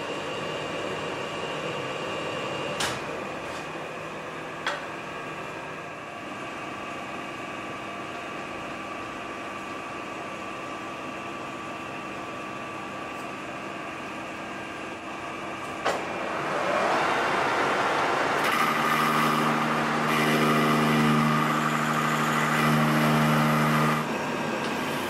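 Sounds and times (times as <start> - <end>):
workshop machinery humming: 0.0 - 25.0.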